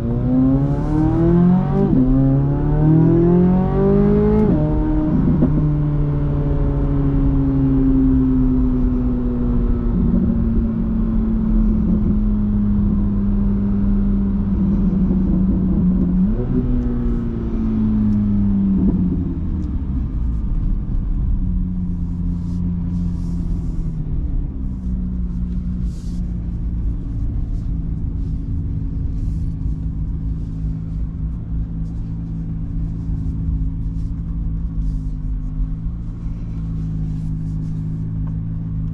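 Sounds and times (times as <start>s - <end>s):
sports car engine running: 0.0s - 38.9s.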